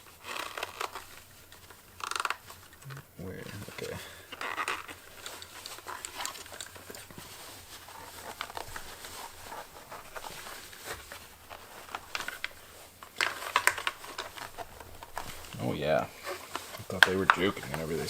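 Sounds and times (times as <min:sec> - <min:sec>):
hard plastic clicking and rubbing: 0:00.0 - 0:18.0
plastic scrapes: 0:00.0 - 0:18.0.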